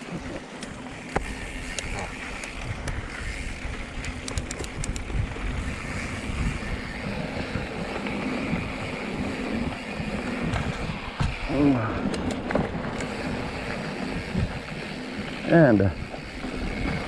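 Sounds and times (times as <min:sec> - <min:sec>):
bike tyres rumbling on trail: 0:00.0 - 0:17.0
wind buffeting microphone: 0:00.1 - 0:17.0.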